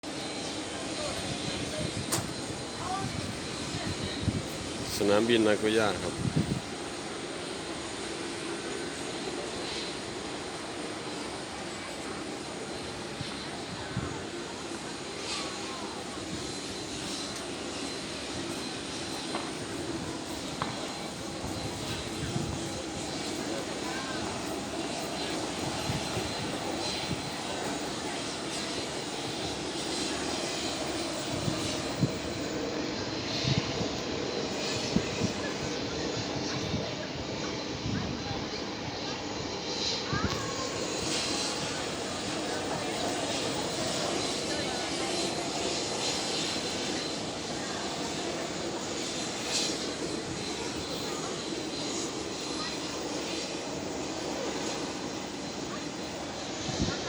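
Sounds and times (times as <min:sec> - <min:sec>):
jet engines running: 0:00.0 - 0:57.0
faint high whine: 0:00.1 - 0:57.0
wind buffeting microphone: 0:00.4 - 0:07.3, 0:12.9 - 0:52.2, 0:56.5 - 0:57.0.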